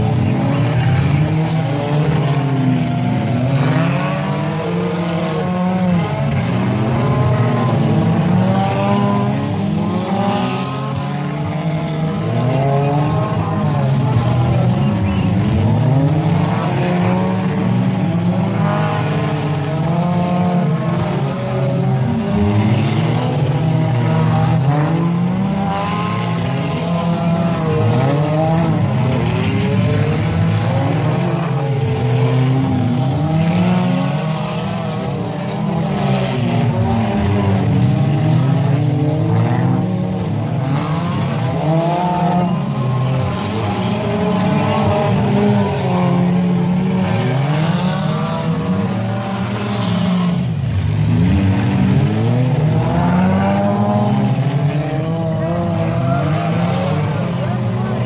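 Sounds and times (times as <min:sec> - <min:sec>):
race car engines accelerating: 0:00.0 - 0:58.0.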